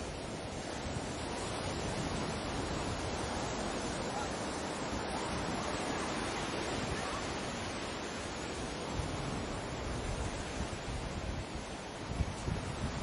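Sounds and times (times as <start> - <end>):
waves washing in: 0.0 - 13.0
wind on microphone: 0.0 - 13.0.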